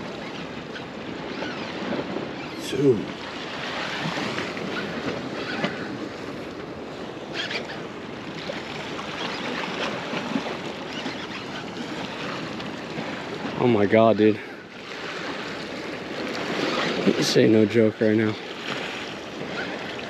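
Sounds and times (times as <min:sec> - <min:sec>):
waves and current rushing: 0:00.0 - 0:20.0
wind buffeting microphone: 0:00.0 - 0:20.0.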